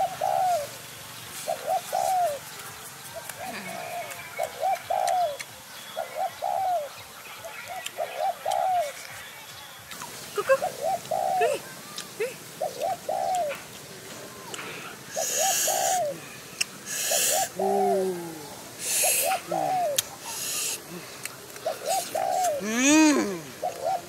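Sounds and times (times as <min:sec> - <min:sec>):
dove cooing: 0:00.0 - 0:00.8, 0:01.4 - 0:02.4, 0:03.2 - 0:05.4, 0:06.0 - 0:06.9, 0:07.6 - 0:09.0, 0:10.1 - 0:24.0.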